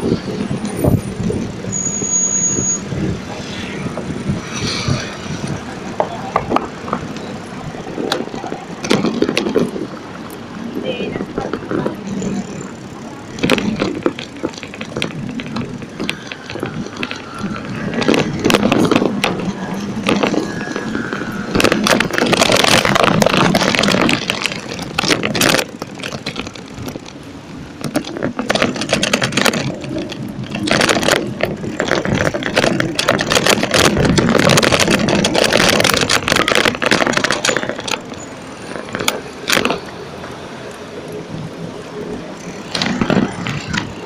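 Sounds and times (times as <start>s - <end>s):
bicycle rattling over bricks: 0.0s - 44.0s
city traffic: 0.0s - 44.0s.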